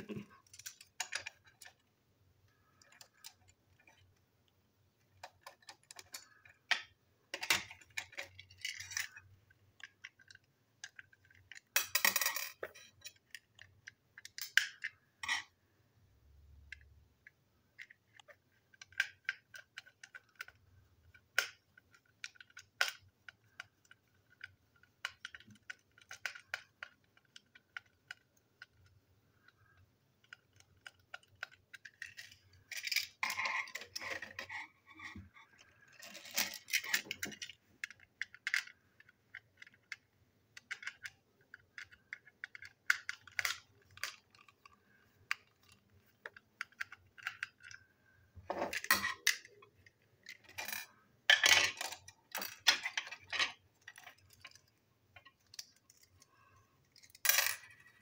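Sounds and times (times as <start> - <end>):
plastic toy parts clicking and clattering: 0.0 - 4.3, 4.9 - 15.7, 16.3 - 58.0.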